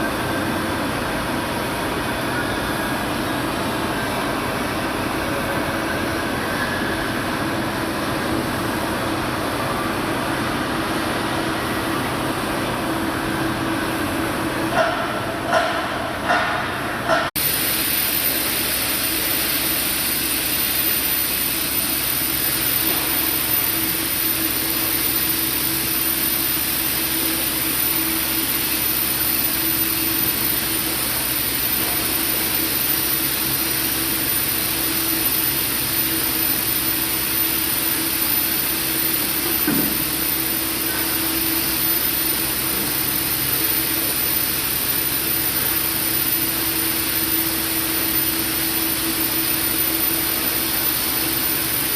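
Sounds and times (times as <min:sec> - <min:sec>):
machinery hiss: 0:00.0 - 0:51.9.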